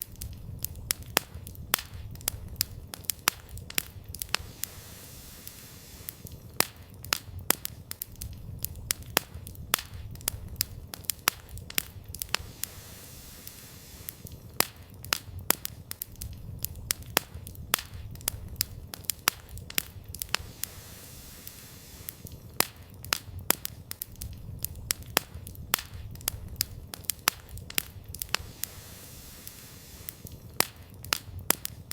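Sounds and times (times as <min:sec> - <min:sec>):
campfire crackling and popping: 0:00.0 - 0:31.9
low rumble of burning fire: 0:00.0 - 0:31.9.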